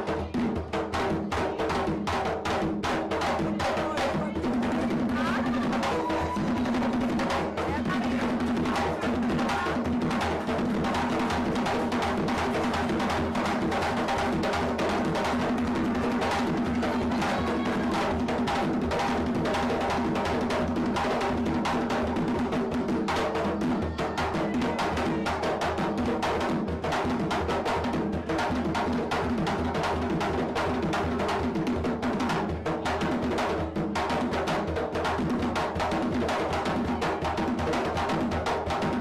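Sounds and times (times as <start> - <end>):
conga drums slapped by hand: 0.0 - 39.0.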